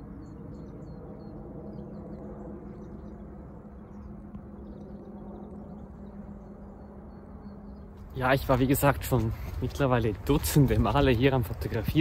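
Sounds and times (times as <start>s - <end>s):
low hum and rumble: 0.0s - 12.0s
small birds chirping: 0.0s - 12.0s.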